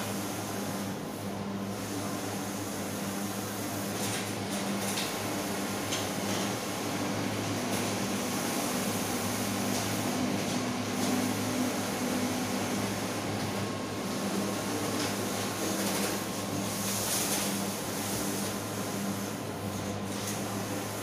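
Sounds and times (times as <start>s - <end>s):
steady mechanical hum: 0.0s - 21.0s
printer carriage sweeping: 1.6s - 21.0s.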